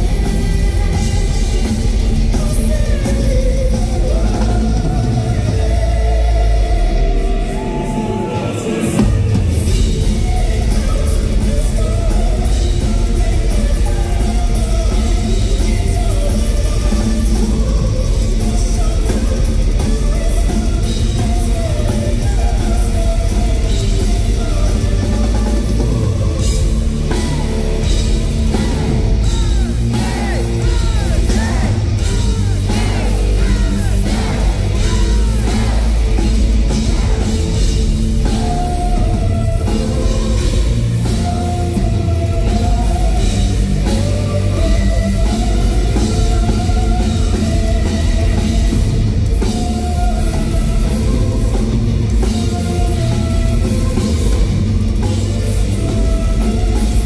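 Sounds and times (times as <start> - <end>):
distorted electric guitars: 0.0 - 57.0
drum kit playing: 0.0 - 57.0.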